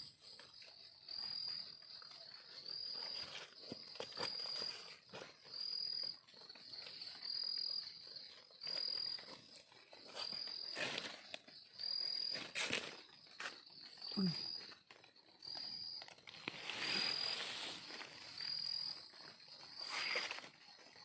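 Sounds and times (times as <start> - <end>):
rustling in undergrowth: 0.0 - 21.0.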